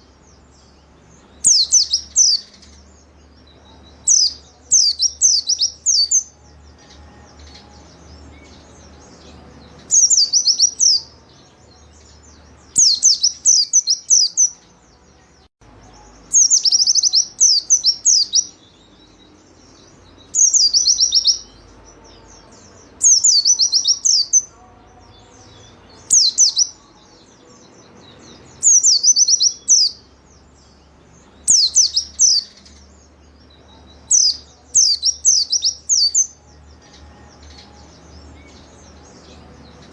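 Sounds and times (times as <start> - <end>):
bird singing high rapid notes: 0.0 - 39.9.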